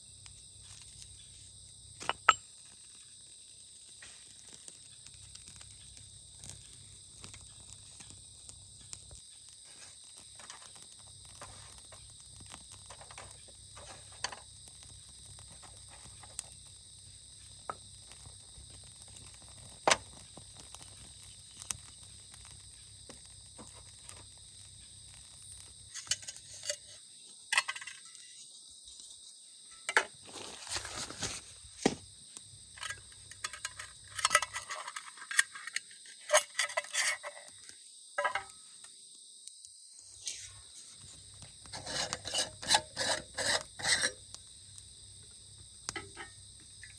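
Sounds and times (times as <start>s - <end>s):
crickets and insects chirping: 0.0s - 46.9s.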